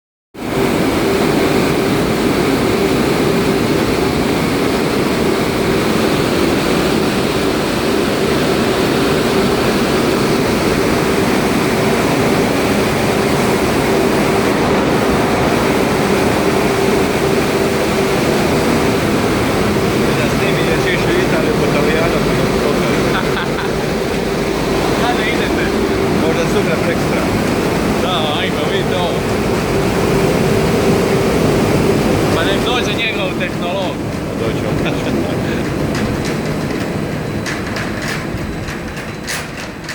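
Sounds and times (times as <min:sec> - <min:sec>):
rushing noise: 0:00.4 - 0:39.1
car wash machinery hum: 0:00.4 - 0:39.9.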